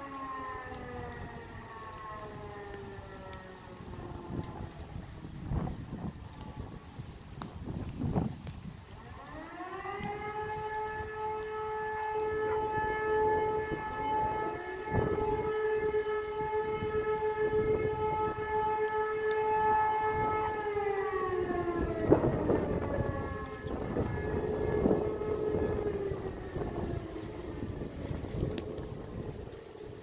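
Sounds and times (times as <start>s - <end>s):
motor sirens wailing: 0.0s - 30.0s.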